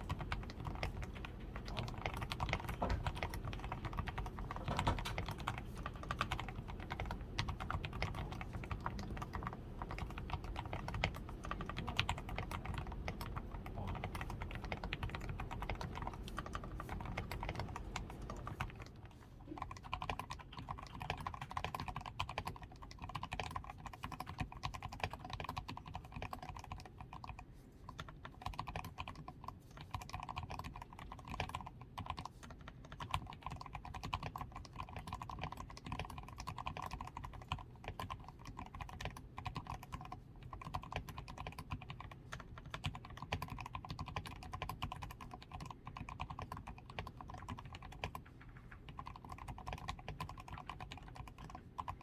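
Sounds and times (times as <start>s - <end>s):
mechanical keyboard typing: 0.0s - 52.0s.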